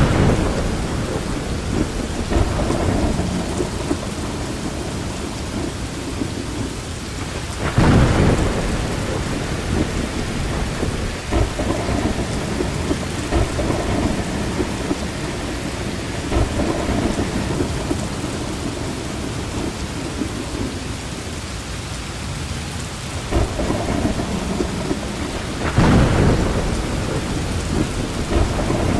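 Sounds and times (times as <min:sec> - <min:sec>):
thunder rumbling: 0:00.0 - 0:21.6, 0:22.4 - 0:28.9
heavy rain falling: 0:00.0 - 0:28.9.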